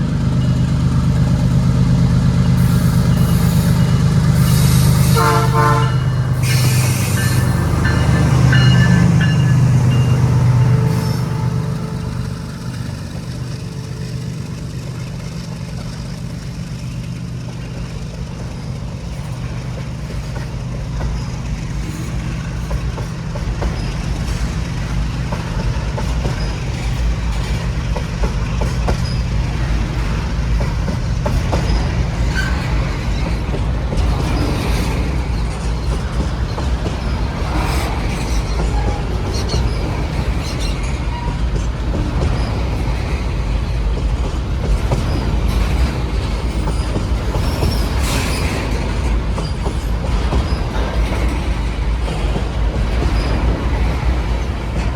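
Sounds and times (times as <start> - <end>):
diesel locomotive engine rumbling: 0.0 - 54.9.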